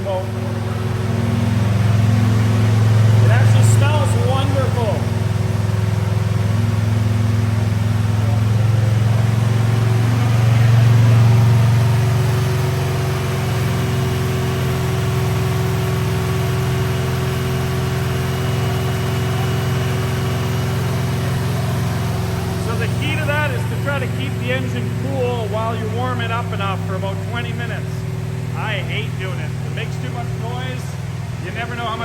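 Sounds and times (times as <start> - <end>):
engine running at speed: 0.0 - 32.0.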